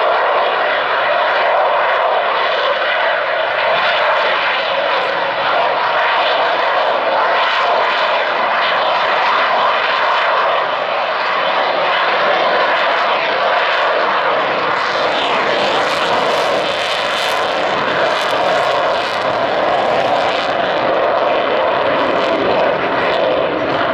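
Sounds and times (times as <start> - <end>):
jet engine in flight: 0.0 - 23.9.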